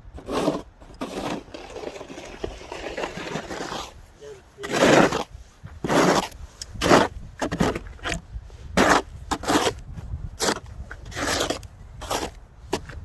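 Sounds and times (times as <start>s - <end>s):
snow shovel scraping concrete: 0.2s - 13.0s.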